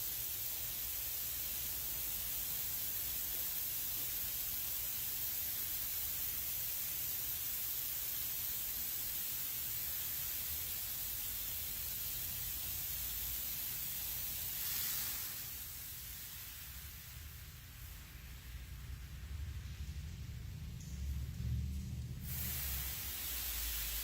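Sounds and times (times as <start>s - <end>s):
car wash water spray hissing: 0.0s - 24.0s.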